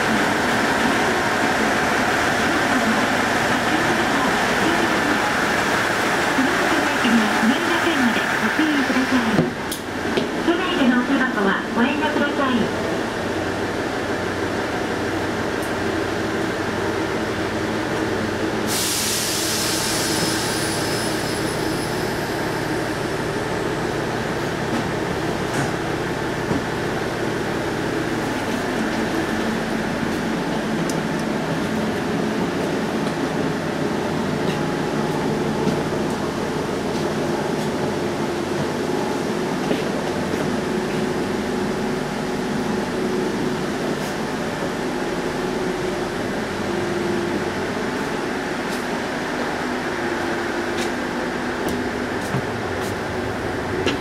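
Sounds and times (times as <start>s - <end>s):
diesel railcar engine idling: 0.0s - 54.0s.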